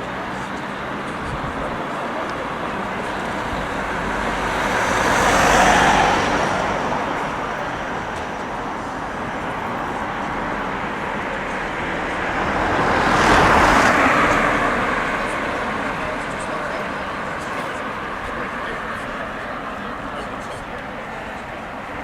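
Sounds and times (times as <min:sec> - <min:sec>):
vehicle passing close: 0:00.0 - 0:20.6
road traffic rushing: 0:00.0 - 0:22.0.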